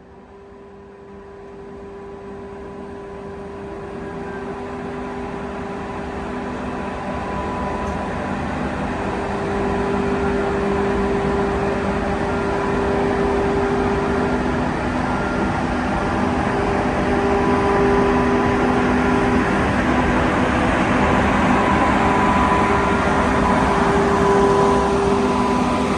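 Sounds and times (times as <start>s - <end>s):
electric locomotive humming: 0.0s - 25.9s.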